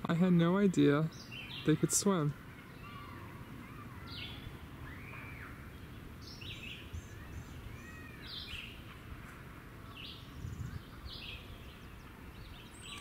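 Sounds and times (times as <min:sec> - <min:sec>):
songbirds chirping and whistling: 0:00.2 - 0:13.0.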